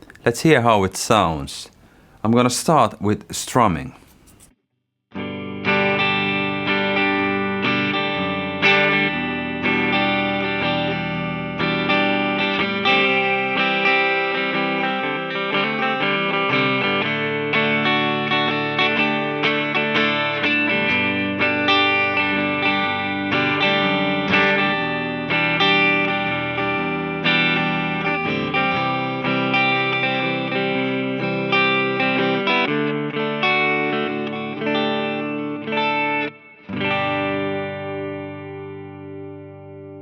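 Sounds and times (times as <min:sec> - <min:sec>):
electric guitar strumming chords: 0:05.2 - 0:40.0.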